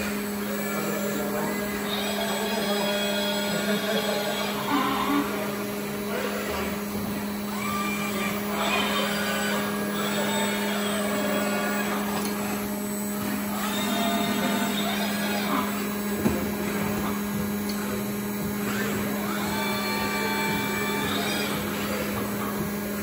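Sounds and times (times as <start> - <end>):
low machine drone: 0.0 - 23.0
robot arm whirring: 0.0 - 23.0.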